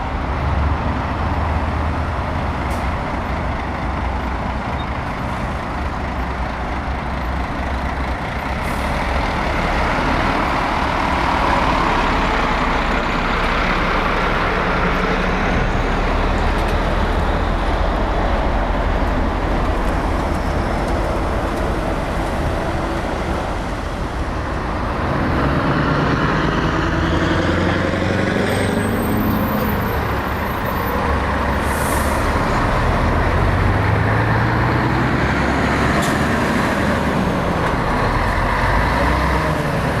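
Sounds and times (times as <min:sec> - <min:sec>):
diesel trucks running: 0:00.0 - 0:40.0
truck engine accelerating: 0:00.0 - 0:40.0.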